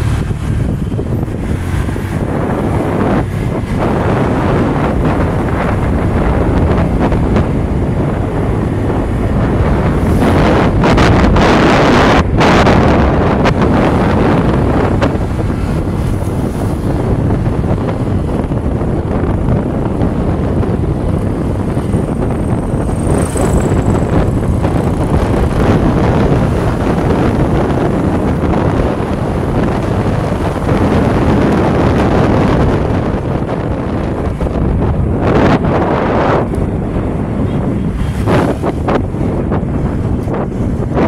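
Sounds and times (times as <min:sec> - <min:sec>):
vehicle engine and road noise: 0:00.0 - 0:41.0
wind buffeting microphone: 0:00.0 - 0:41.0.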